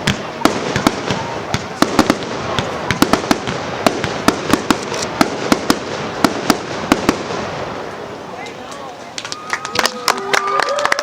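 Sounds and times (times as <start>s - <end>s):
crackling hiss and rumble: 0.0s - 10.3s
fireworks bangs: 0.0s - 10.3s.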